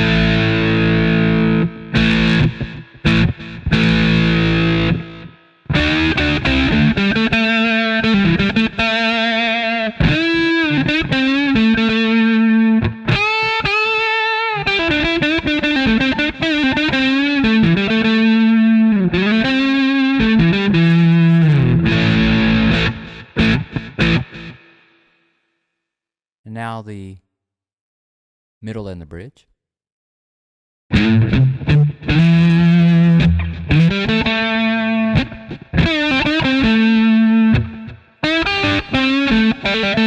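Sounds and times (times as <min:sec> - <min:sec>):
distorted electric guitar: 0:00.0 - 0:25.0, 0:30.9 - 0:40.0.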